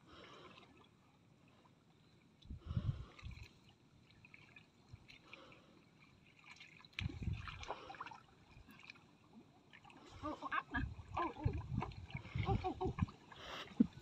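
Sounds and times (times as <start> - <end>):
muddy water sloshing and dripping: 2.4 - 14.0.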